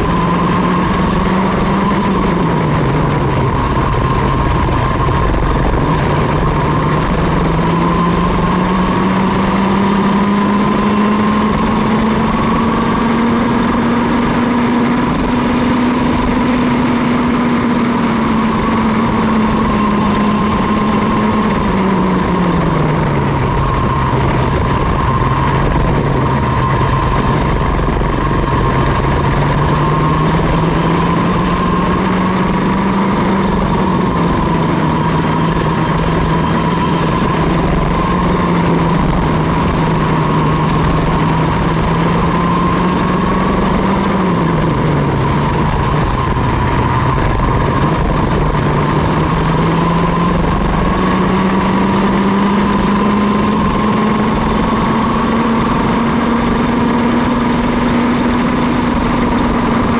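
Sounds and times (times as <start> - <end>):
kart two-stroke engine revving: 0.0 - 59.9.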